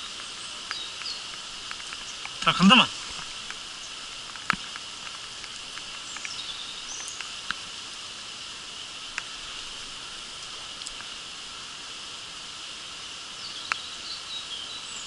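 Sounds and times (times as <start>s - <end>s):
raindrops ticking on camera: 0.0s - 11.6s, 13.5s - 14.0s
rain falling on creek: 0.0s - 15.0s.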